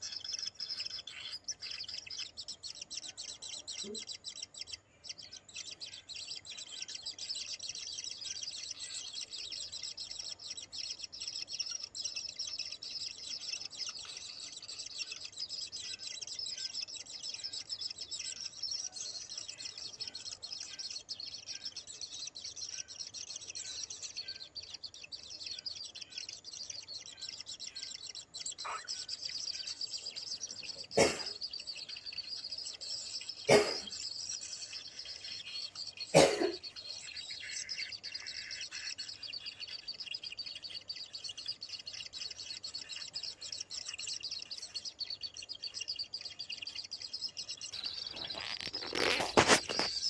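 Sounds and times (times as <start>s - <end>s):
bird nestlings chirring: 0.0s - 50.0s.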